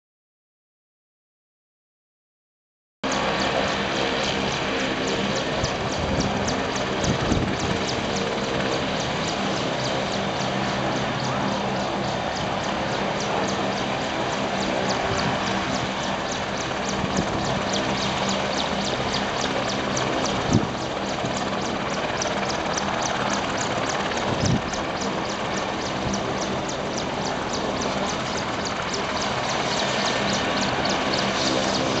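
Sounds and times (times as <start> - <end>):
helicopter turbine and rotor: 3.0 - 32.0.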